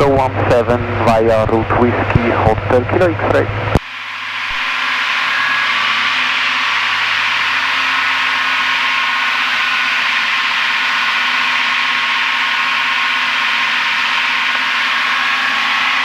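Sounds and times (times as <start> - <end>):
aircraft cabin engine drone: 0.0 - 16.0.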